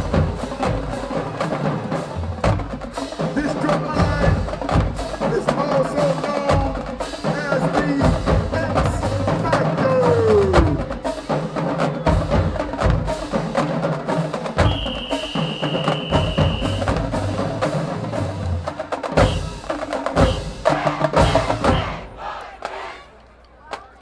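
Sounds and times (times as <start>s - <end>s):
snare drum strokes: 0.0s - 23.1s.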